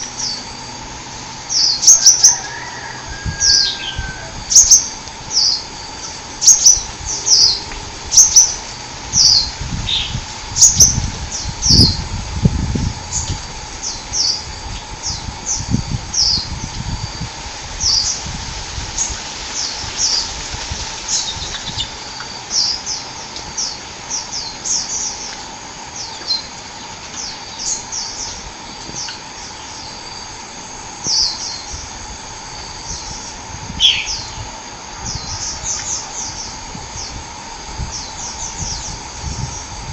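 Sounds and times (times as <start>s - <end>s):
small songbird chirping: 0.0s - 0.8s, 1.5s - 12.1s, 12.8s - 17.2s, 21.1s - 30.3s, 31.0s - 37.2s, 37.8s - 39.8s
faint steady hum: 0.0s - 39.9s.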